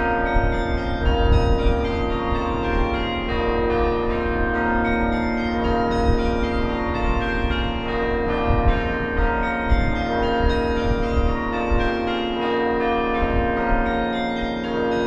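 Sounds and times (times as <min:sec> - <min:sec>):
carillon bells ringing melody: 0:00.0 - 0:15.0.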